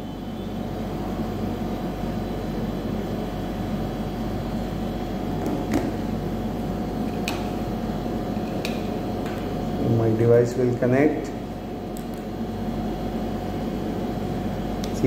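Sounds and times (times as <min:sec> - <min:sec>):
mechanical room hum: 0:00.0 - 0:15.0.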